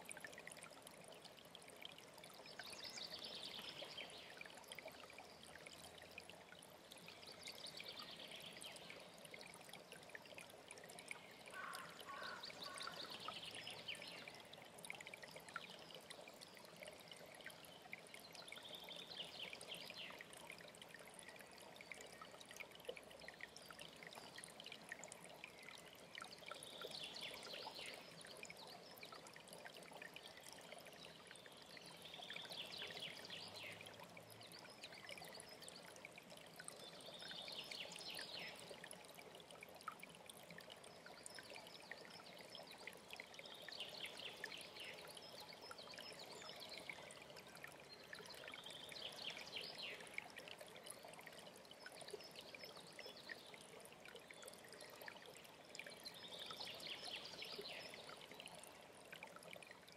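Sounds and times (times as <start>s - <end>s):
mountain stream running: 0.0s - 59.9s.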